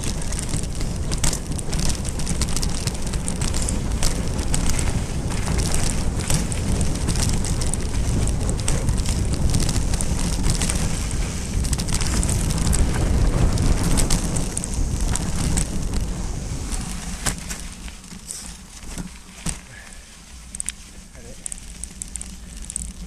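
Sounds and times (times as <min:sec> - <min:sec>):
wind rushing over microphone: 0:00.0 - 0:19.8
bike clicks and rattles: 0:00.0 - 0:23.0
bike tyres rumbling over dirt: 0:00.0 - 0:23.0.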